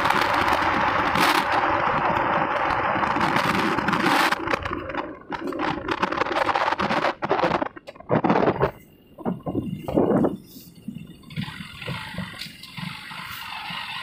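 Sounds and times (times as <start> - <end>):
motorcycle engine running: 0.0 - 14.0
wind rushing over microphone: 0.0 - 14.0.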